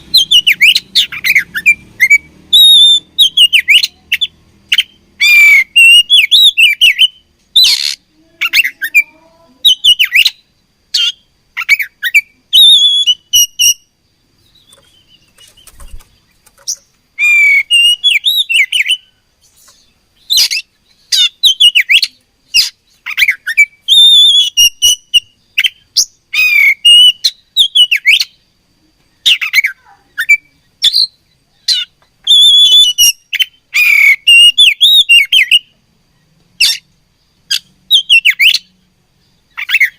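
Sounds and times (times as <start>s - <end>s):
bird singing sharp chirps: 0.0s - 28.4s, 29.2s - 39.9s.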